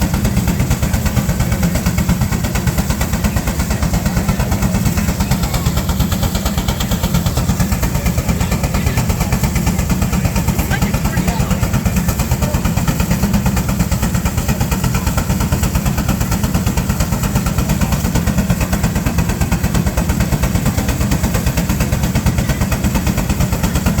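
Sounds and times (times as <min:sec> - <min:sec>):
steam engine exhaust beating: 0:00.0 - 0:24.0.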